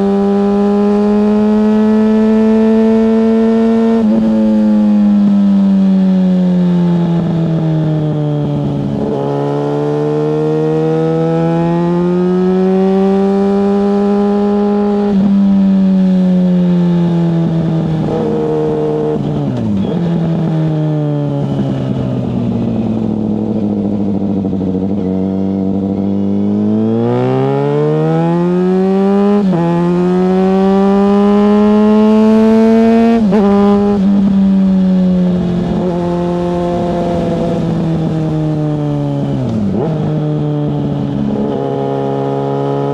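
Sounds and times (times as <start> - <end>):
motorcycle engine revving through gears: 0.0 - 42.9.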